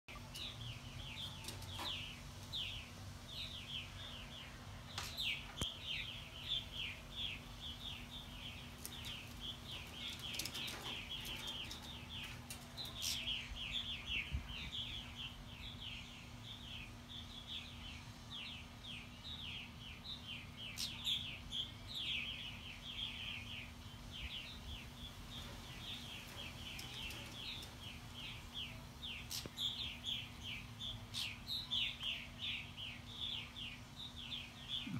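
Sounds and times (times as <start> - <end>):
birds chirping alarm calls: 0.2 - 34.9.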